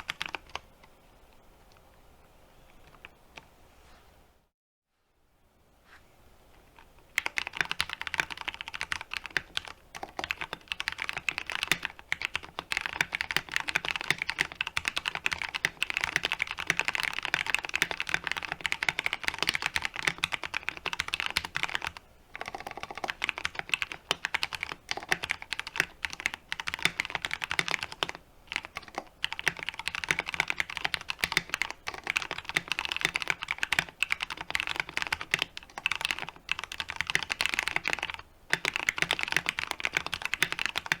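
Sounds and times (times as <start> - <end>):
fast mechanical keyboard typing: 0.0 - 0.6, 6.8 - 41.0.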